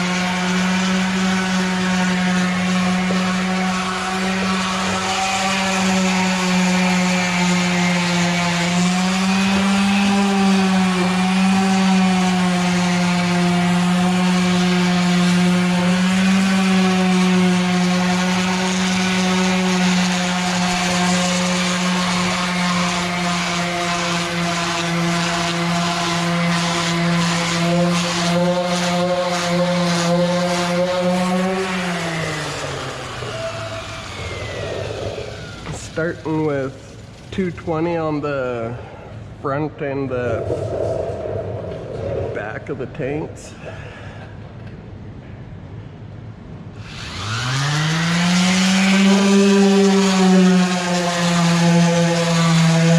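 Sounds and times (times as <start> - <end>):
electric polishing machine: 0.0 - 36.4, 46.9 - 52.9.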